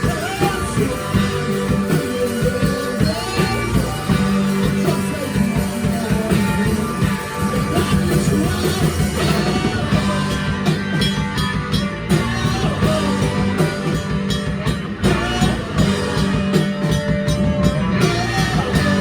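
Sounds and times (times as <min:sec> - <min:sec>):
drum kit pounding: 0:00.0 - 0:19.0
electric guitar: 0:00.0 - 0:19.0.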